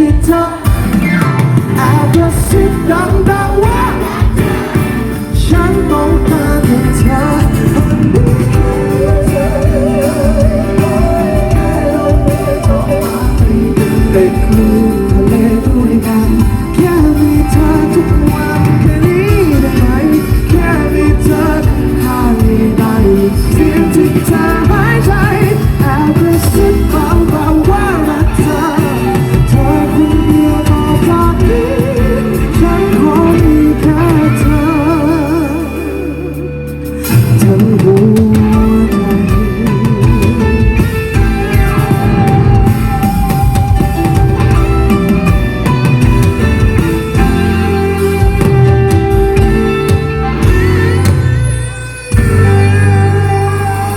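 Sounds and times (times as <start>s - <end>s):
live band playing pop song: 0.0s - 53.9s
person singing: 0.0s - 53.9s.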